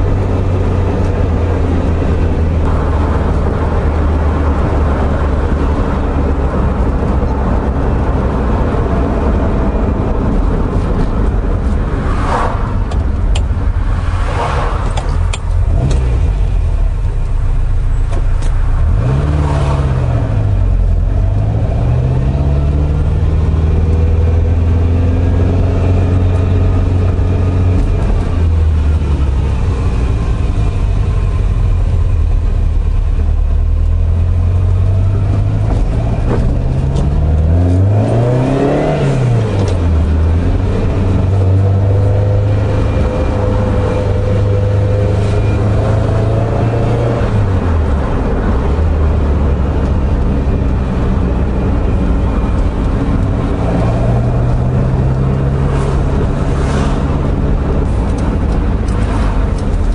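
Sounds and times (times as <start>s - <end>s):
car engine heard from cabin: 0.0s - 59.9s.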